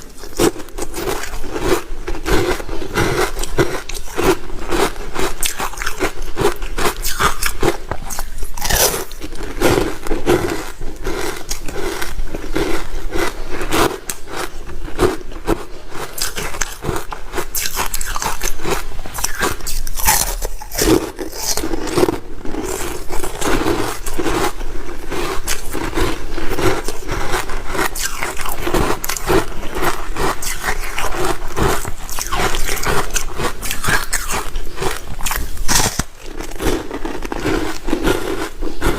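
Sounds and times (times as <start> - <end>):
ice crunching and chewing: 0.0 - 38.9.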